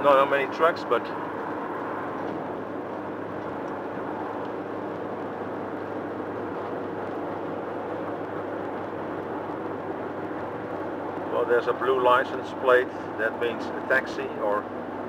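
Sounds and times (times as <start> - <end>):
road and tyre noise in car: 0.0 - 15.0.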